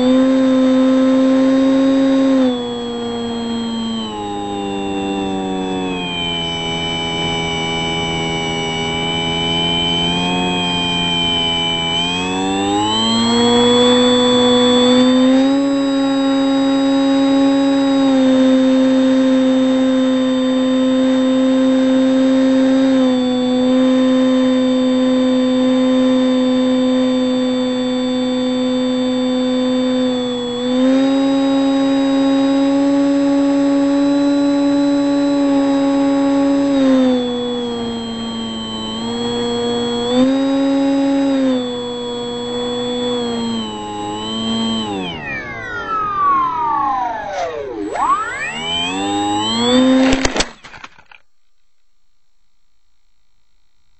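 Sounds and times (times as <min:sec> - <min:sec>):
electric motor and propeller whine: 0:00.0 - 0:51.2.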